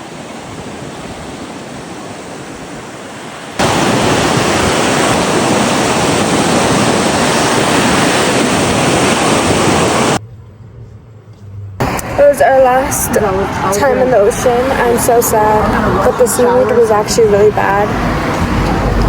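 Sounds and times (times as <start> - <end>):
ocean surf: 0.0 - 10.2, 11.8 - 19.0
wind buffeting microphone: 0.0 - 11.2, 11.8 - 19.0.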